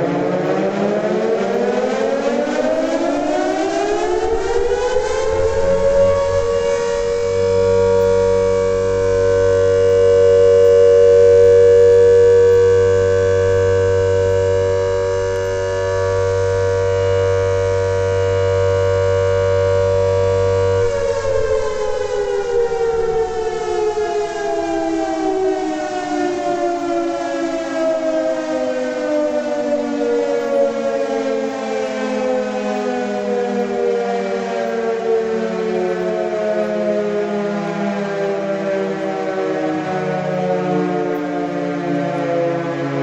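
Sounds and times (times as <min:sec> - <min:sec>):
civil defense siren: 0:00.0 - 0:43.0.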